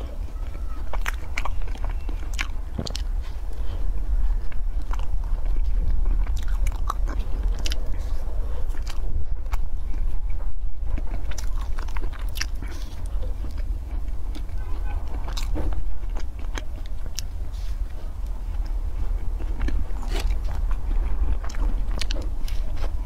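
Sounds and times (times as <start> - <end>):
crunchy biting and chewing: 0.0 - 23.0
steady low rumble: 0.0 - 23.0.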